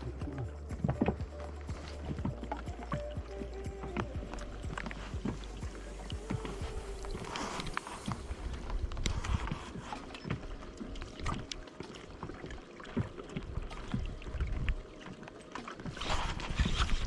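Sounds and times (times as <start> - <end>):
water lapping against kayak hull: 0.0 - 17.0.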